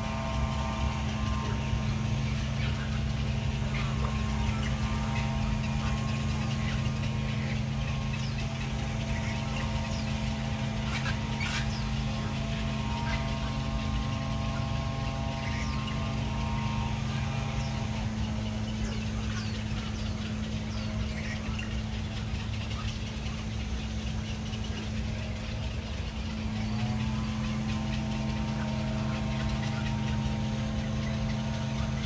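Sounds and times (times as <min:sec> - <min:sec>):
faint bird chirps: 0:00.0 - 0:32.0
vehicle engine humming: 0:00.0 - 0:32.0.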